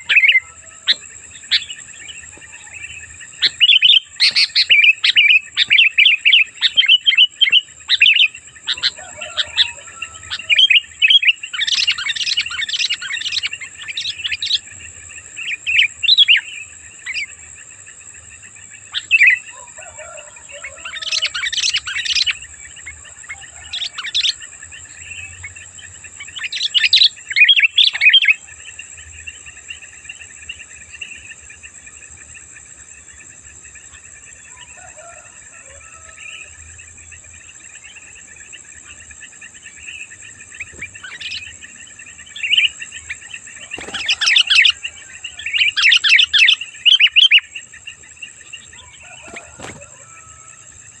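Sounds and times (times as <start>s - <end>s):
bird calls: 0.0s - 51.0s
bulbul chattering song: 0.0s - 51.0s
steady high-pitched tones: 0.0s - 51.0s.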